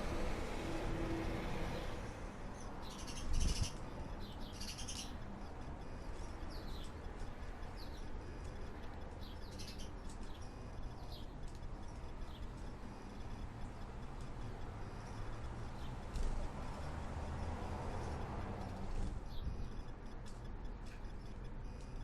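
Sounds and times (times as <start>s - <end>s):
small birds chirping: 1.7s - 22.0s.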